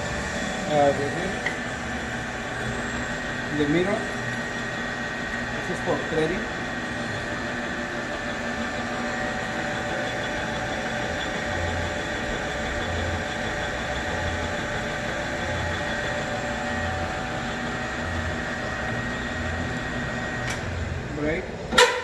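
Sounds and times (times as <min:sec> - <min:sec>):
lathe running with gear whine: 0:00.0 - 0:22.0.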